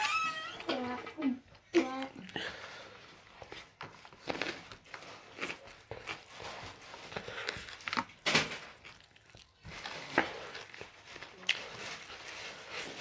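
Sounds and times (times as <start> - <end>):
person chewing food: 1.8 - 13.0.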